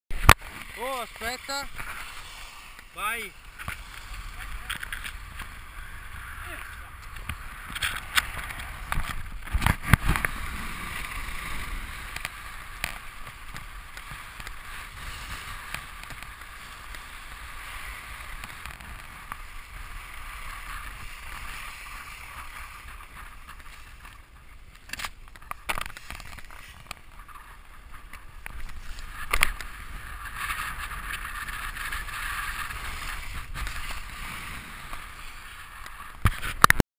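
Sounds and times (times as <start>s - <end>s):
wind rumbling on microphone: 0.1s - 36.8s
skis hissing on snow: 0.6s - 8.9s, 10.0s - 24.1s, 28.6s - 36.2s.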